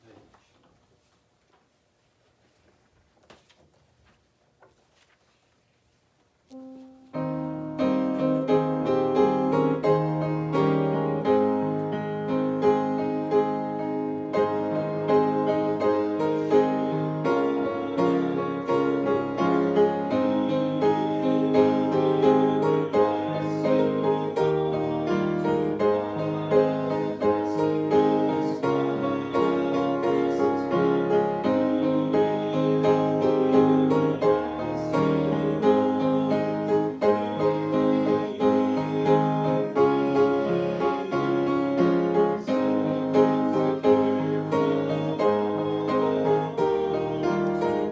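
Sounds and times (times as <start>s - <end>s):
piano music: 6.5s - 47.9s.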